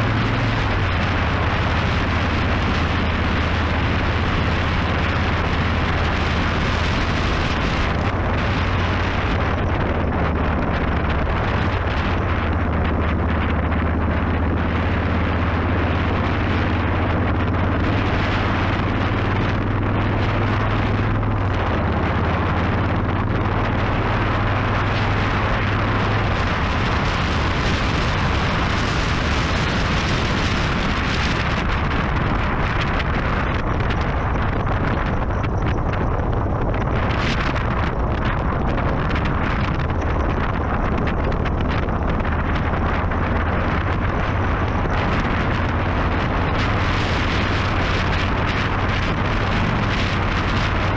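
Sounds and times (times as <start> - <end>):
motorcycle engine running: 0.0 - 50.9
wind noise on microphone: 0.0 - 50.9.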